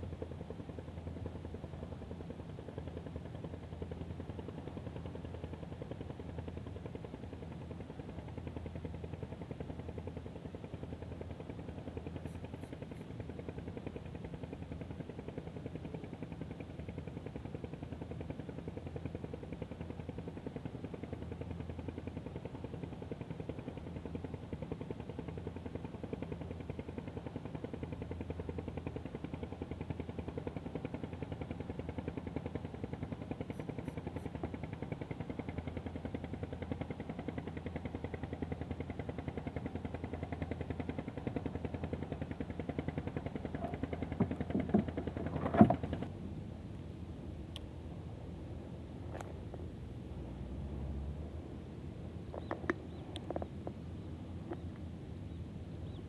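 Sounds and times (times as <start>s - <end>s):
low mechanical hum with flutter: 0.0s - 56.0s.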